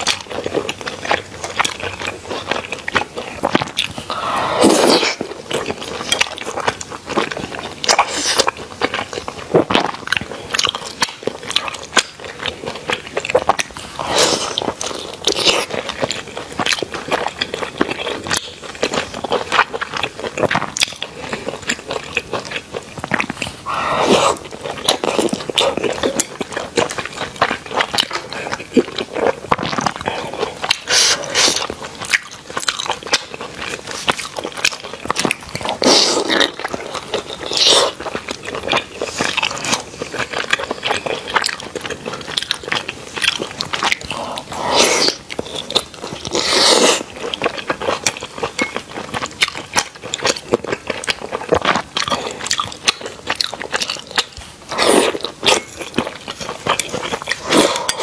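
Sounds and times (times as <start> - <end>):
biting and wet chewing: 0.0 - 58.0.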